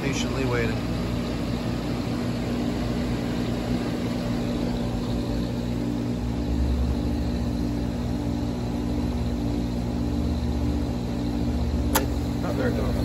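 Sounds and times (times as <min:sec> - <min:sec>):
heat pump whirring hum: 0:00.0 - 0:13.0.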